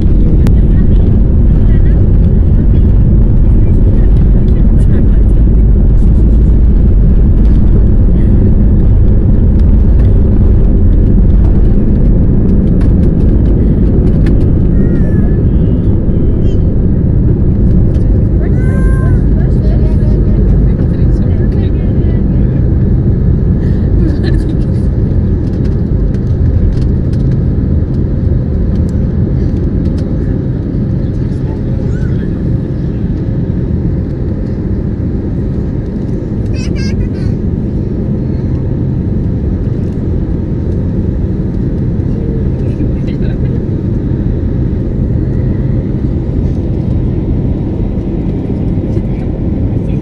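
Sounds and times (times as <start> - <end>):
jet engines rumbling at takeoff: 0.0 - 50.0.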